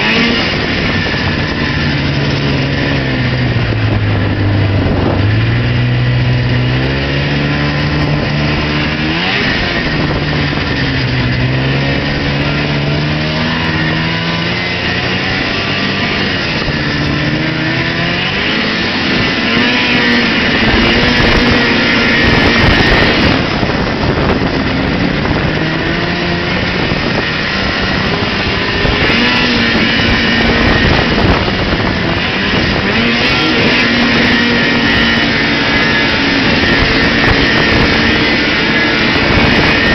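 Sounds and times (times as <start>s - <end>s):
snowmobile engine running: 0.0s - 39.9s
steady rushing noise: 0.0s - 39.9s.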